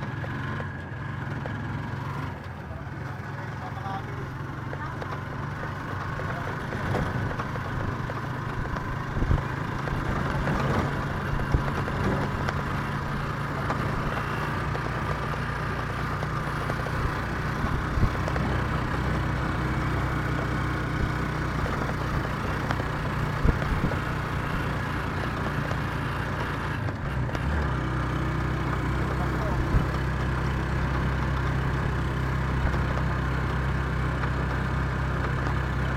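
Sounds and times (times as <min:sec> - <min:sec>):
vehicle engine and road noise: 0:00.0 - 0:35.9.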